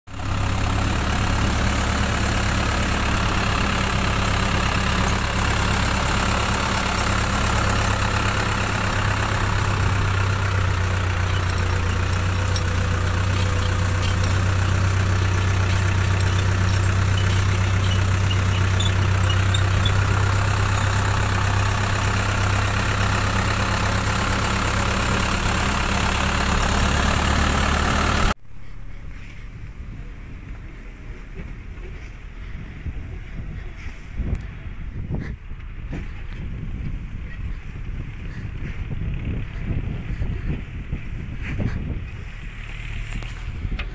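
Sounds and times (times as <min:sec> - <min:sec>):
farm vehicle engine droning: 0:00.1 - 0:43.9.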